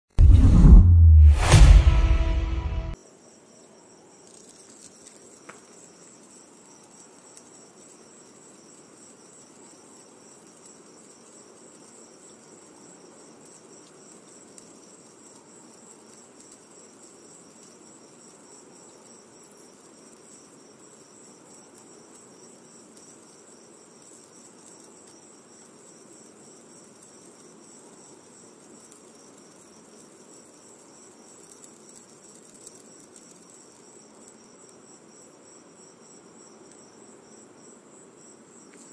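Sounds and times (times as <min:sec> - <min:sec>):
crickets chirping: 0:03.0 - 0:38.9.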